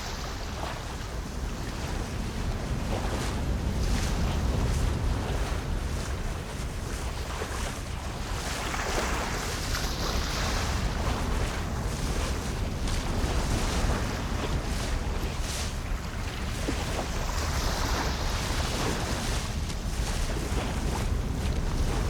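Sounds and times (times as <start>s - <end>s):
water flowing with splashing: 0.0s - 22.0s.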